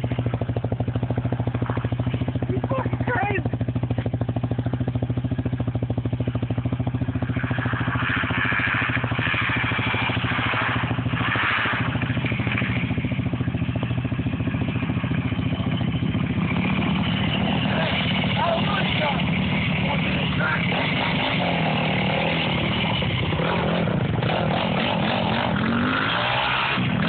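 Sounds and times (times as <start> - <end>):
engine idling: 0.0 - 26.0
distant dirt bike engine: 0.0 - 27.0.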